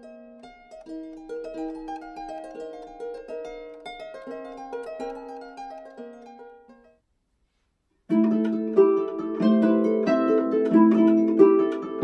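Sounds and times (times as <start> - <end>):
harp melody: 0.0 - 7.0, 8.1 - 12.0.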